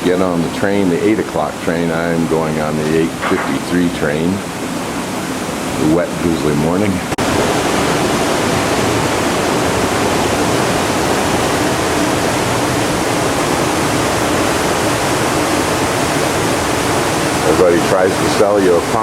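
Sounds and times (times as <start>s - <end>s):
loud steady rushing noise: 0.0s - 19.0s.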